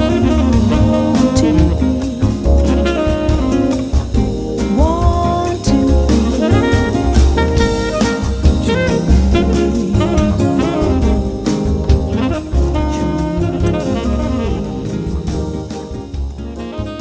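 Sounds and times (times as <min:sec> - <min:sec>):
jazz music with saxophone and drums: 0:00.0 - 0:17.0.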